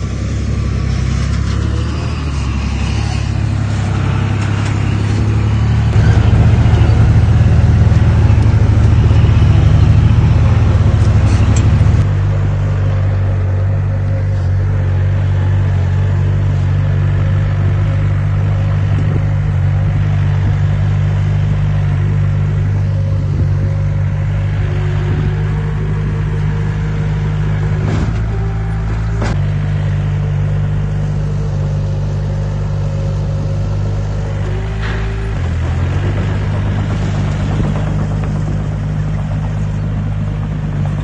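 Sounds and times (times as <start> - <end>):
heavy diesel engine rumbling: 0.0 - 41.0.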